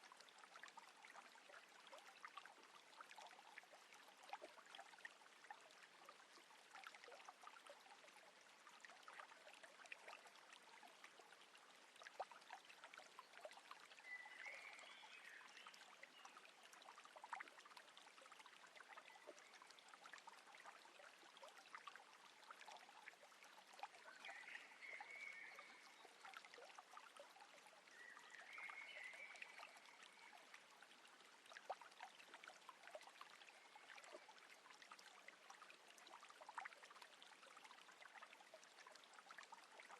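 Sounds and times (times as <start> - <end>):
small ticks and drips: 0.0 - 39.9
water trickling and lapping: 0.0 - 39.9.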